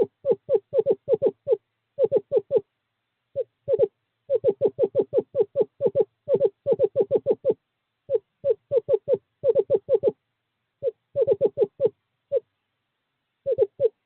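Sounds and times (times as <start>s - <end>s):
owl hooting: 0.0s - 2.7s, 3.3s - 10.2s, 10.8s - 12.5s, 13.4s - 14.0s.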